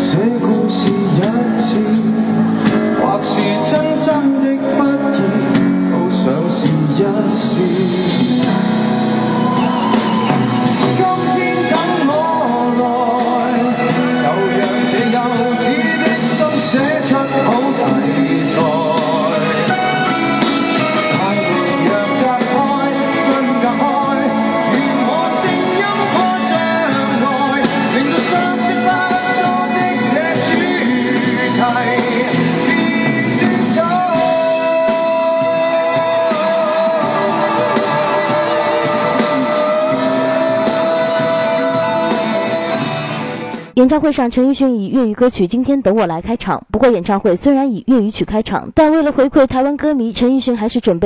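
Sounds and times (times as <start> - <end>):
man singing pop song: 0.0 - 8.9, 10.6 - 43.7
full band playing: 0.0 - 45.1.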